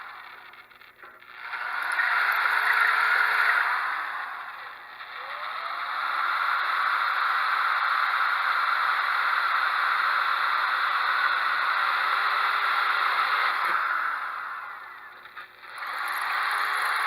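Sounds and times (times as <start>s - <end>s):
power drill whirring: 0.0s - 17.0s.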